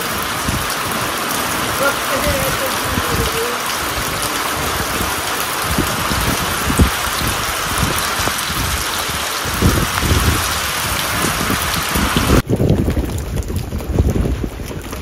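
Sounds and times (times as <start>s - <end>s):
heavy rain falling on a lake: 0.0s - 15.0s.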